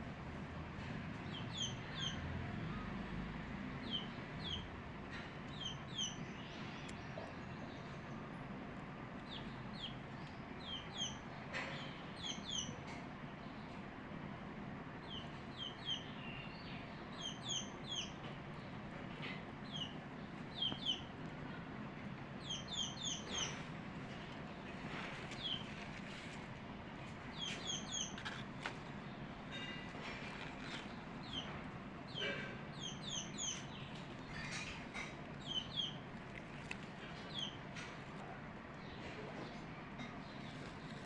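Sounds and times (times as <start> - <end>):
low background noise: 0.0 - 41.0
small birds chirping: 1.1 - 2.8, 3.8 - 13.9, 14.9 - 41.0.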